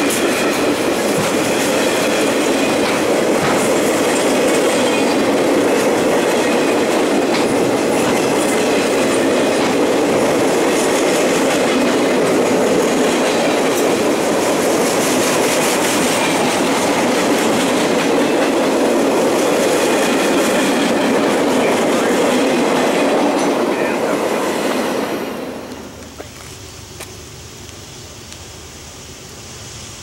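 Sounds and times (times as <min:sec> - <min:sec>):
train wheels clattering on rails: 0:00.0 - 0:26.5.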